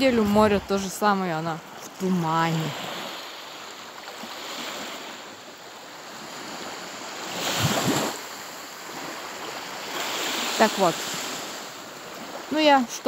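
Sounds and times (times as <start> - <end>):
waves washing up a shore: 0.0 - 13.0.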